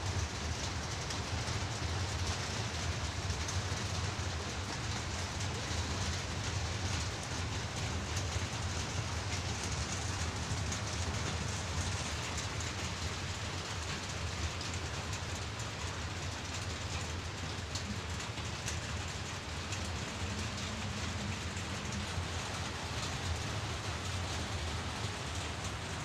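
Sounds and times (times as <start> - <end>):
heavy rain: 0.0 - 26.0
low steady rumble: 0.0 - 26.0
hail ticking: 0.4 - 26.0.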